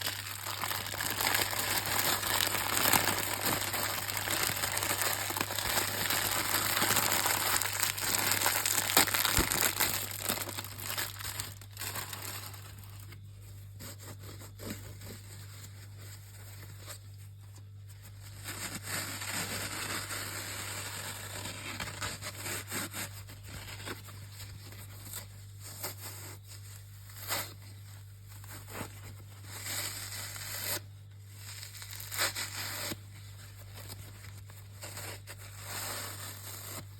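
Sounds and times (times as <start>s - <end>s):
sponges crackling rustle: 0.0s - 36.9s.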